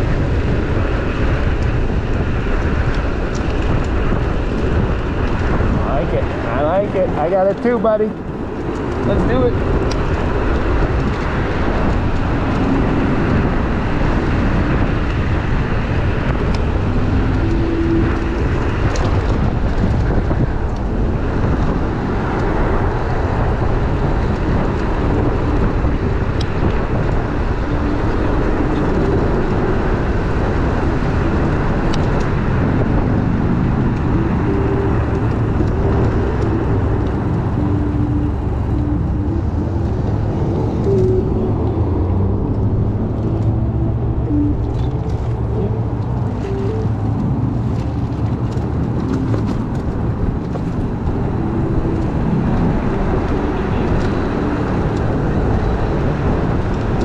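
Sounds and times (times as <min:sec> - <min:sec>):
road rumble: 0:00.0 - 0:57.0
wind rush: 0:00.0 - 0:57.0.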